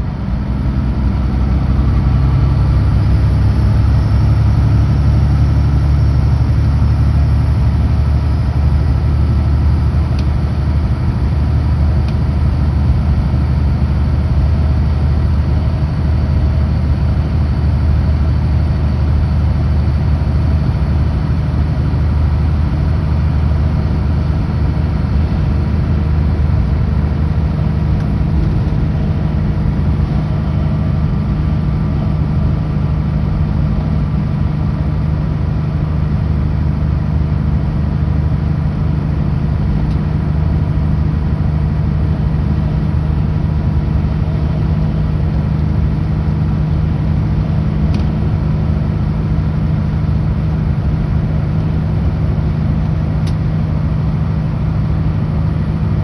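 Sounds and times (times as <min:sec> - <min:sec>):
road and tyre noise: 0:00.0 - 0:56.0
truck diesel engine droning: 0:00.0 - 0:56.0.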